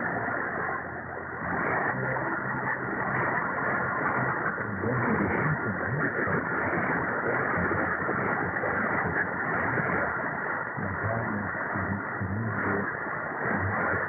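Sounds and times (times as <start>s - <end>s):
faint radio broadcast audio: 0.0s - 14.0s
radio static hiss: 0.0s - 14.0s.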